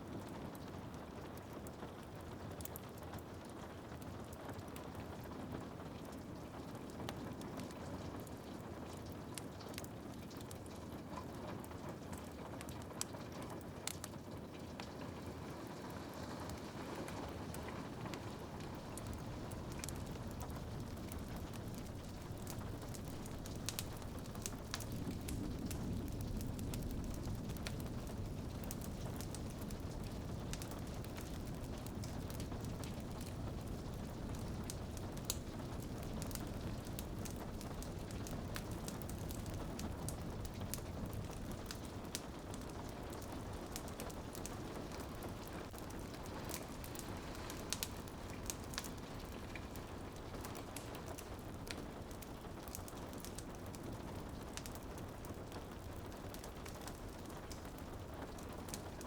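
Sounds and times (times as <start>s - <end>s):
wood fire crackling: 0.0s - 59.0s
rain hiss: 10.9s - 59.0s.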